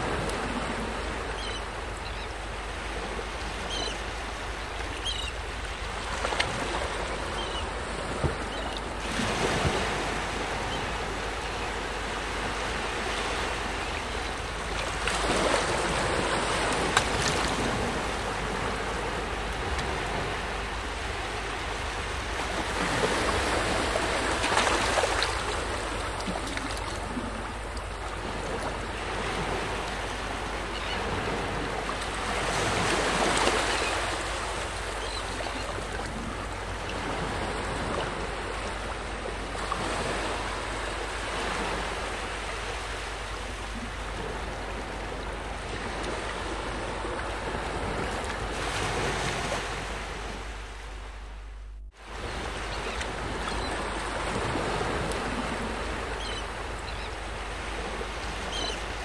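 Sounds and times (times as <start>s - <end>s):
ocean surf on sandy beach: 0.0s - 59.0s.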